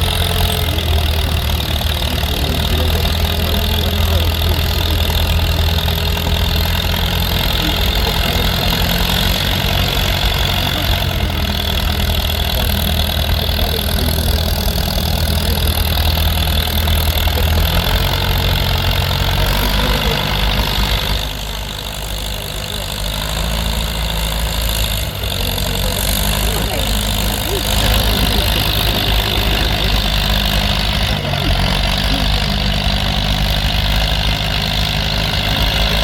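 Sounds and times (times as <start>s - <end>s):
tractor engine under load: 0.0s - 36.0s.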